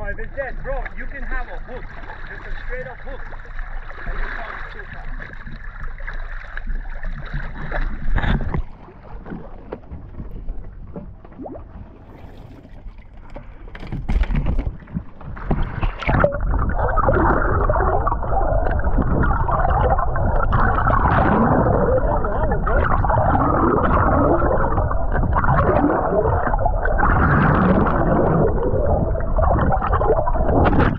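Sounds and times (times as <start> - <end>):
muffled water sloshing and gurgling: 0.0 - 30.9
steady water rushing: 0.0 - 30.9.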